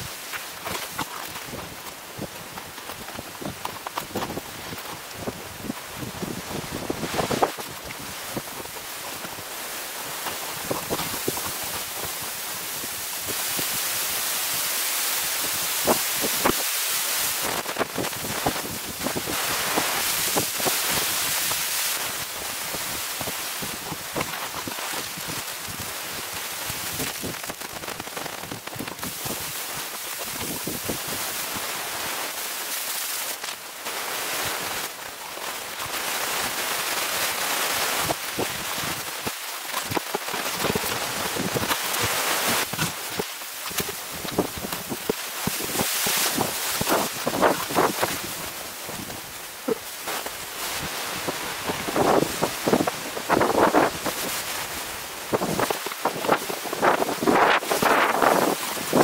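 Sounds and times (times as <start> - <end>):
board hissing over snow: 0.0 - 59.0
snow crunches and clicks: 0.0 - 59.0.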